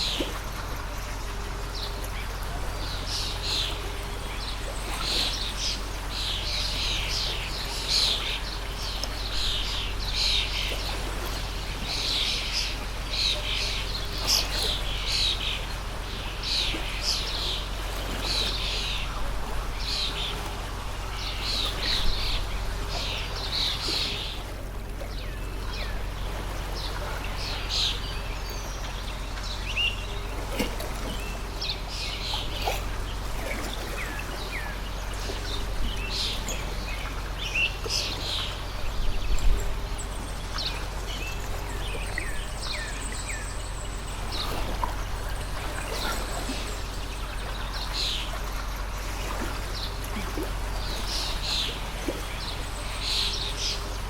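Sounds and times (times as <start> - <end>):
small birds chirping: 0.0 - 54.0
stream rushing: 0.0 - 54.0.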